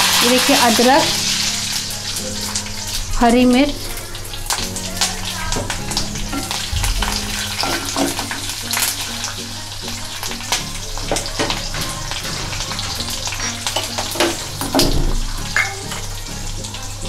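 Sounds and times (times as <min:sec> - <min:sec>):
spices sizzling in hot oil: 0:00.0 - 0:17.0.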